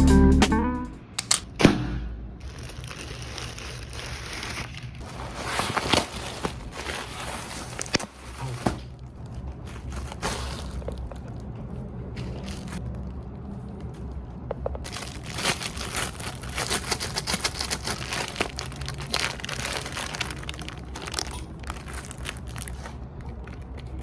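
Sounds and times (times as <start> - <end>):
packaging crinkling and rustling: 2.4 - 13.2, 14.8 - 24.0.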